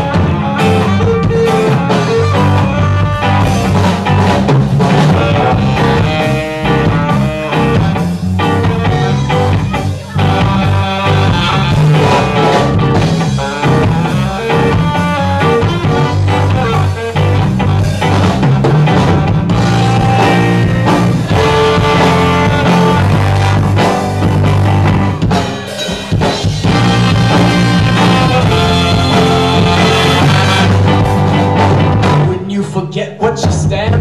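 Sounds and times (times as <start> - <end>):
ska band playing live: 0.0 - 34.0.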